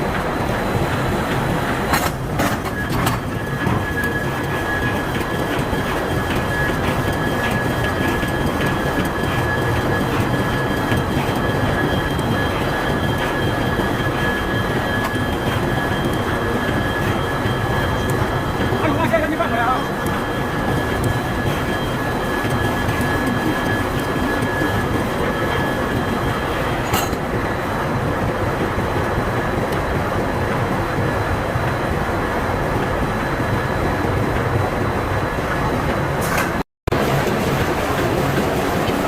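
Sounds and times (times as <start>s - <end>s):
forge machinery rumbling: 0.0s - 39.0s
high machine whine: 0.0s - 39.0s.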